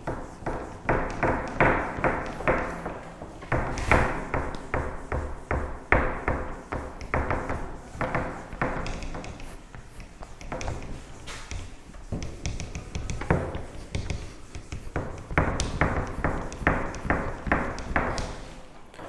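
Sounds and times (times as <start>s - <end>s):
knocks against whiteboard: 0.0s - 9.6s, 10.3s - 18.5s
duster scrubbing whiteboard: 0.0s - 18.9s.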